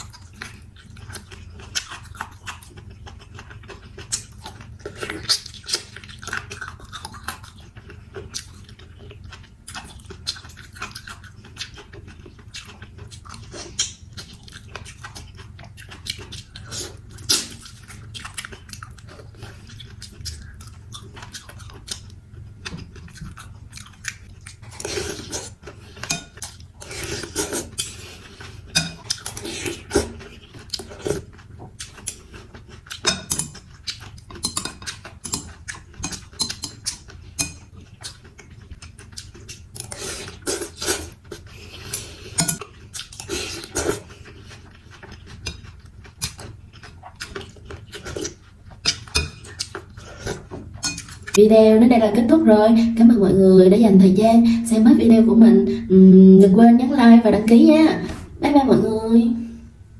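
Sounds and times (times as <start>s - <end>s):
person chewing noodles: 0.0s - 51.4s.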